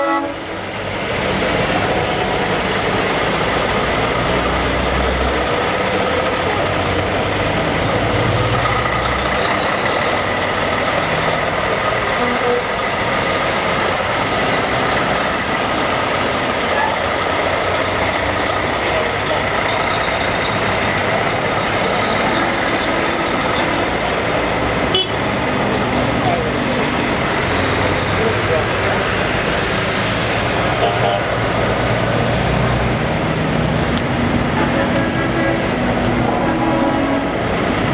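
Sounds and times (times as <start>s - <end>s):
heavy trucks driving past: 0.0s - 37.9s
low engine rumble: 0.4s - 37.9s.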